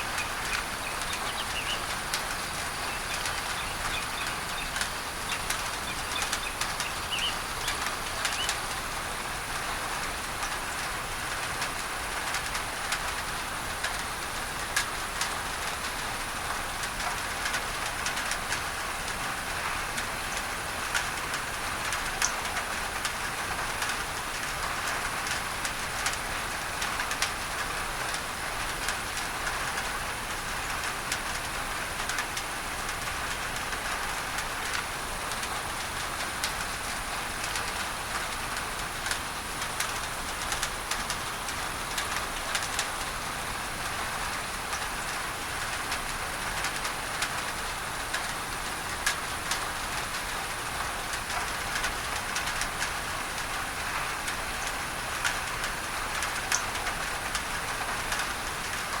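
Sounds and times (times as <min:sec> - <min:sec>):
pink noise hiss: 0:00.0 - 0:59.0
rain on a tin roof: 0:00.0 - 0:59.0.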